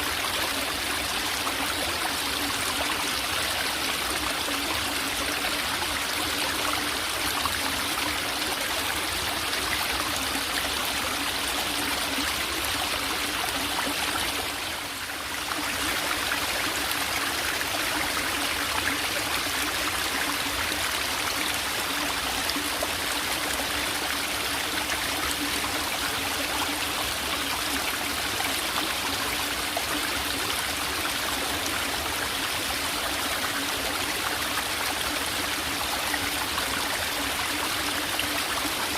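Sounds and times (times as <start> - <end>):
stream babbling and trickling: 0.0 - 38.9.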